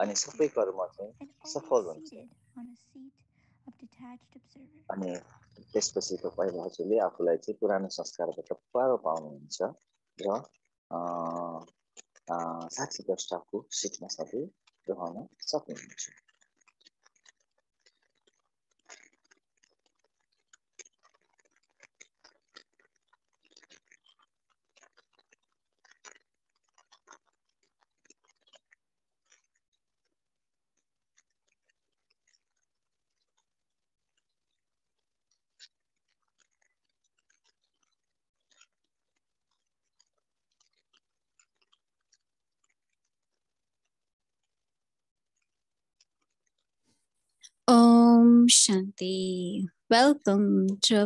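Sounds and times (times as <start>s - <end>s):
faint soft clicks and crackles: 0.0s - 47.7s.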